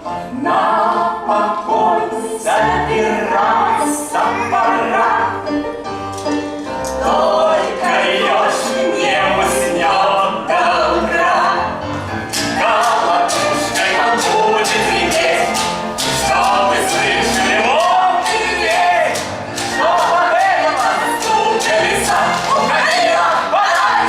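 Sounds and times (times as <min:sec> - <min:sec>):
group of voices singing: 0:00.0 - 0:05.8, 0:06.4 - 0:24.0
musical accompaniment: 0:00.0 - 0:24.0.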